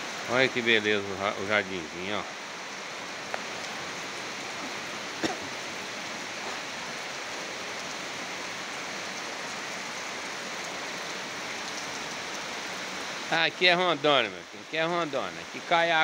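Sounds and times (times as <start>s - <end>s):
heavy rain on grass and plants: 0.0s - 16.0s.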